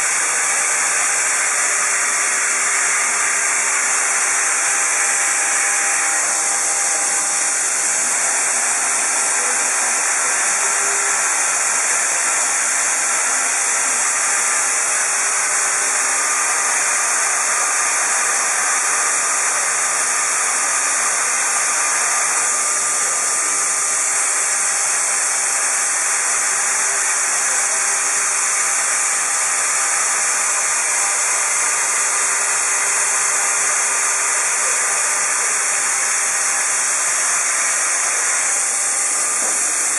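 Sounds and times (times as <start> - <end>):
router high hiss: 0.0 - 39.9.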